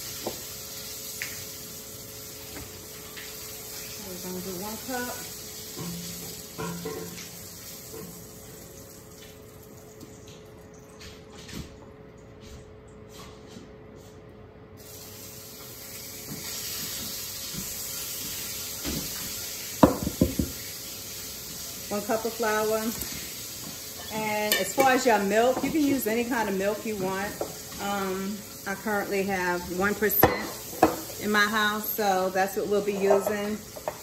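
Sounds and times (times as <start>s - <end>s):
meat sizzling in a pan: 0.0s - 8.8s, 14.8s - 34.0s.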